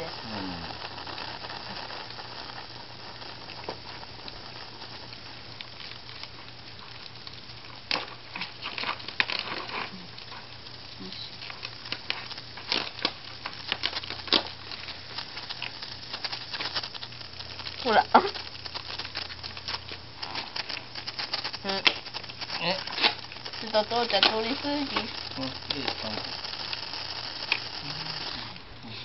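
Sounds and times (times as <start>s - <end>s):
sparkler crackling and popping: 0.0s - 29.0s
sparkler hissing: 0.0s - 29.0s.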